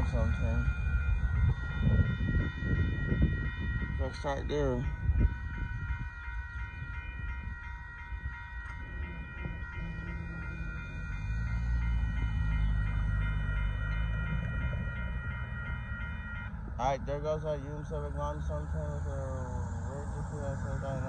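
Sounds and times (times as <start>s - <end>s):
railroad crossing bell ringing: 0.0s - 21.0s.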